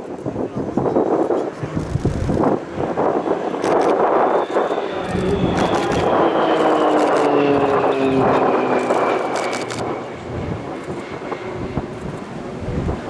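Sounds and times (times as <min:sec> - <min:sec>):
military aircraft flying past: 0:00.7 - 0:13.0.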